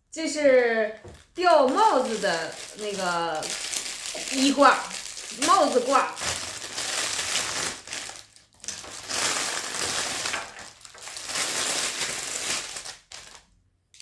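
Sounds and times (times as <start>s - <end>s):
packaging crinkling and rustling: 0.6s - 14.0s.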